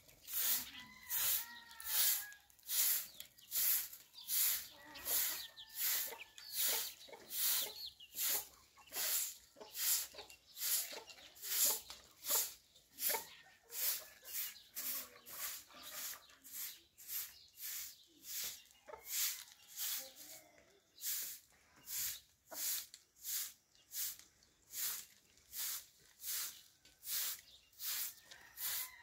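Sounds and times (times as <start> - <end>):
hissy scraping strokes: 0.3 - 20.4, 21.0 - 28.9.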